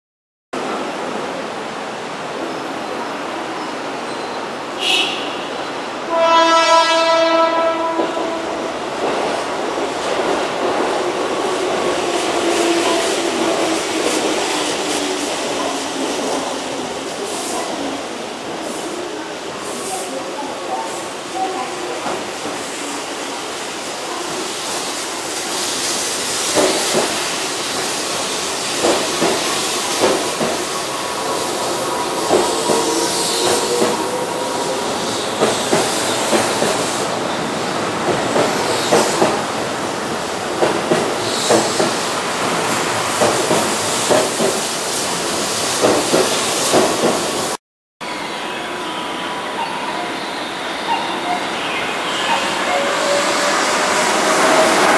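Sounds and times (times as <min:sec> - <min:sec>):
electric train running past: 0:00.6 - 0:47.6, 0:48.2 - 0:54.9.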